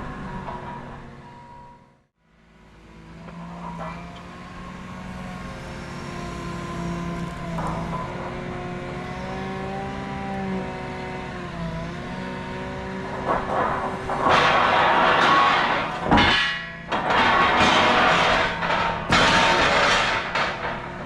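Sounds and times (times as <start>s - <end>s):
heavy equipment engine running: 0.0s - 21.0s.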